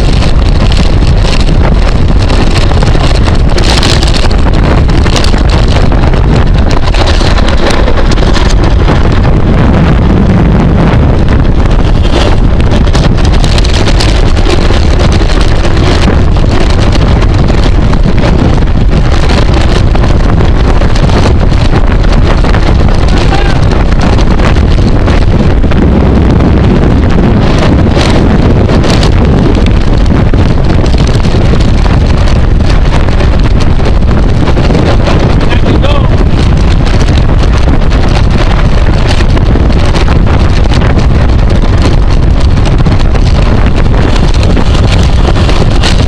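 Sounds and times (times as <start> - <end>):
wind noise on microphone: 0.0 - 46.0.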